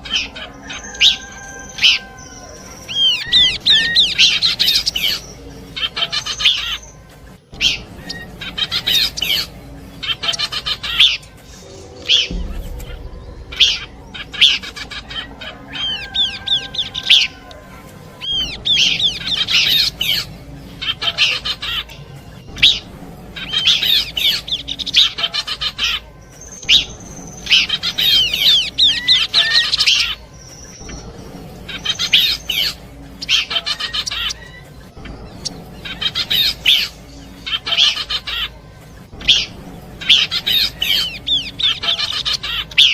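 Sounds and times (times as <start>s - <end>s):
bird chirping song: 0.0s - 42.9s
other birdsong: 0.0s - 42.9s.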